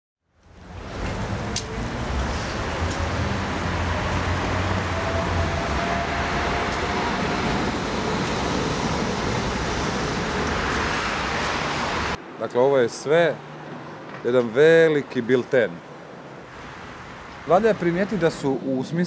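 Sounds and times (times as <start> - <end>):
passing vehicles hum: 0.3 - 19.0.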